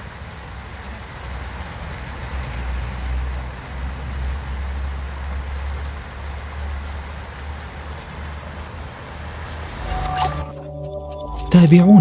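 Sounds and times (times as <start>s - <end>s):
fountain water splashing: 0.0s - 10.1s.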